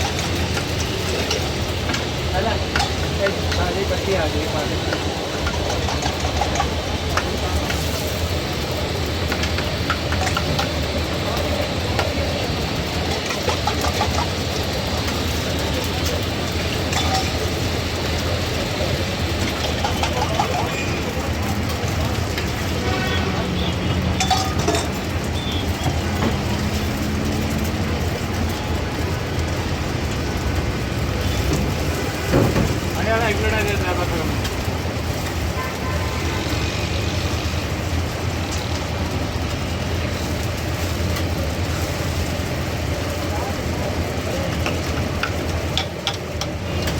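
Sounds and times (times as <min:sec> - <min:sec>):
street background rumble: 0:00.0 - 0:46.9.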